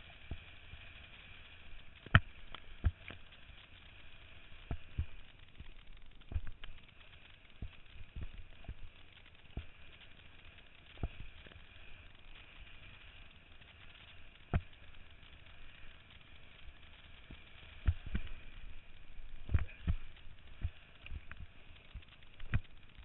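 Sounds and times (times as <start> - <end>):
hiss of water and wind: 0.0 - 23.0.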